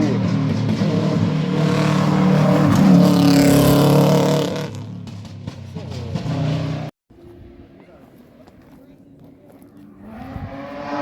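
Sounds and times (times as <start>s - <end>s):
rally car engine passing: 0.0s - 7.8s, 9.6s - 11.0s.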